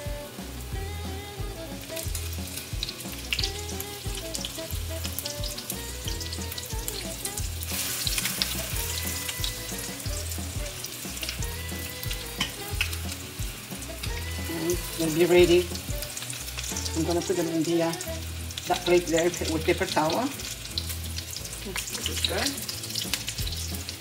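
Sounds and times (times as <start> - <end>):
background music with steady beat: 0.0 - 24.0
food sizzling in oil: 0.0 - 24.0.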